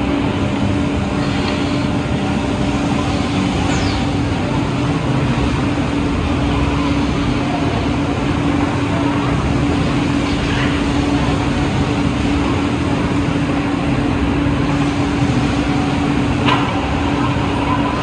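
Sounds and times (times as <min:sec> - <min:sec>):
milling machine droning: 0:00.0 - 0:18.0.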